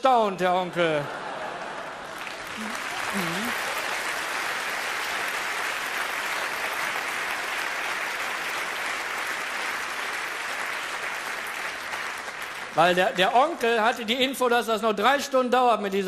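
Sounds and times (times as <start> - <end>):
audience applauding: 0.7 - 14.1.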